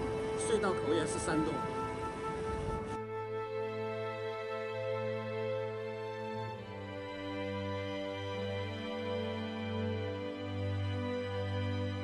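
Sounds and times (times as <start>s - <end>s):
slow sustained chords: 0.0s - 12.0s.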